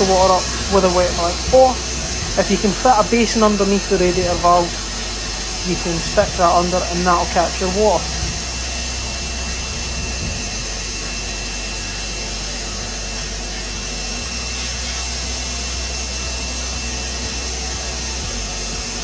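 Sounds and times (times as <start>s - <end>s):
wet and dry vacuum running: 0.0s - 19.0s.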